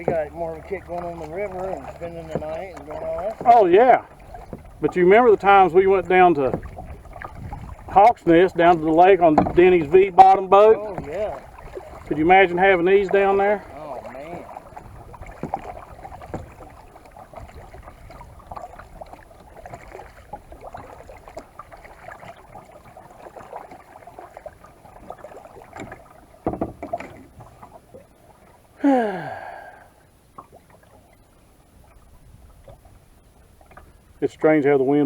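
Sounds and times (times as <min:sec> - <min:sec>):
paddle knocking against hull: 0:00.0 - 0:28.6, 0:30.3 - 0:34.2
paddle splashing in water: 0:00.0 - 0:35.0.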